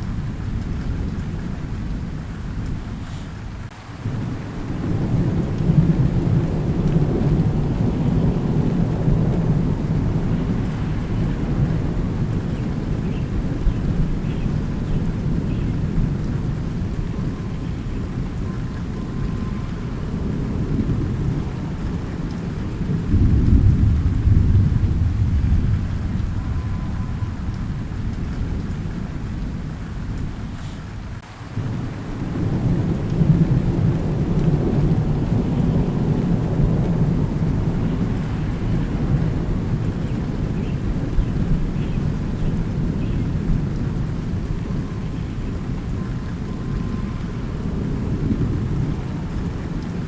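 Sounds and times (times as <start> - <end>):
rolling thunder: 0.0 - 50.0
steady rain: 0.0 - 50.0.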